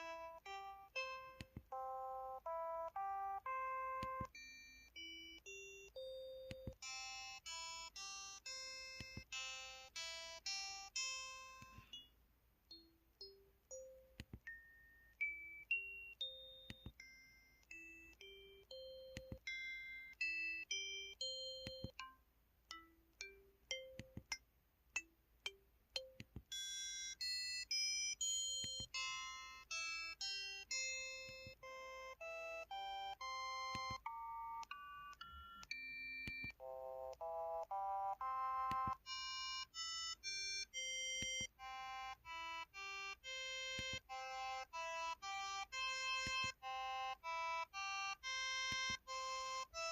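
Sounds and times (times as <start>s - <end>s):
mobile phone keypad tones: 0.0s - 12.1s, 12.7s - 22.1s, 25.4s - 49.9s.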